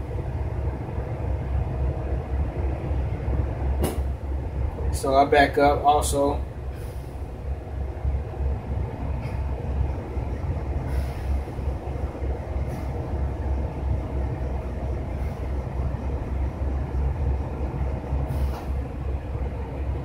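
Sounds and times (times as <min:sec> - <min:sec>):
faint steady hum: 0:00.0 - 0:20.0
steady low rumble: 0:00.0 - 0:20.0.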